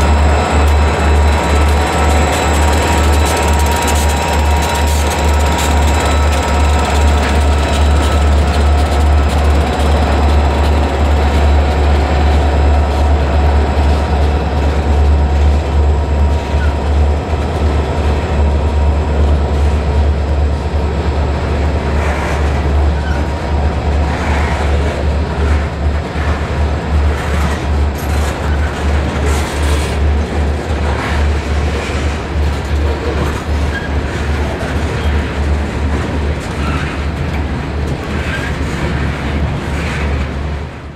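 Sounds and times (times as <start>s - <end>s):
train cars rumbling past: 0.0s - 40.9s.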